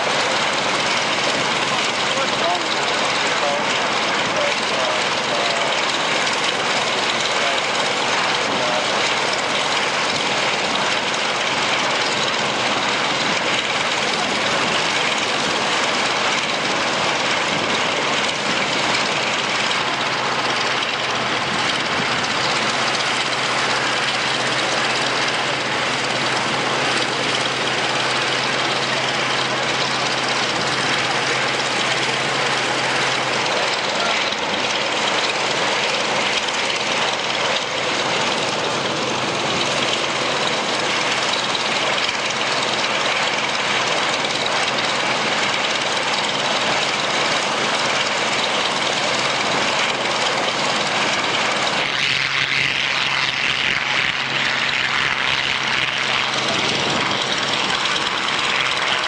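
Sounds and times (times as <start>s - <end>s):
aircraft engine running: 0.0s - 59.0s.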